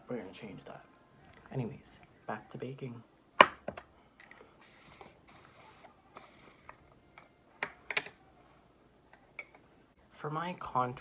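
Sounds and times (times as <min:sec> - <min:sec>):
soft brushing hiss: 0:00.0 - 0:11.0.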